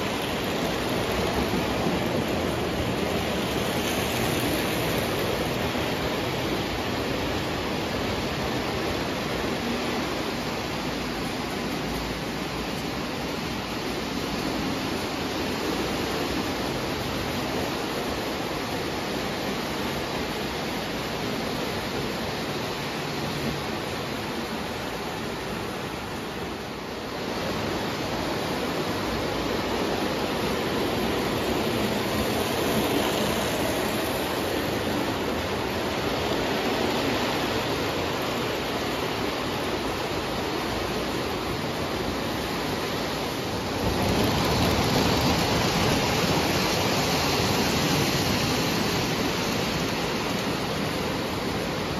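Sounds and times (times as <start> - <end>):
model train rumbling on track: 0.0 - 51.9.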